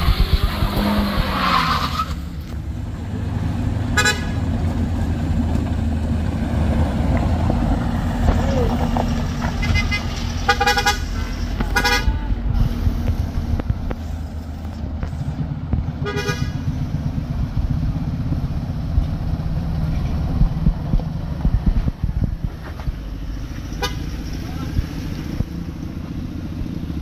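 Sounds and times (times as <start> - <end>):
heavy vehicle engines running: 0.0 - 27.0.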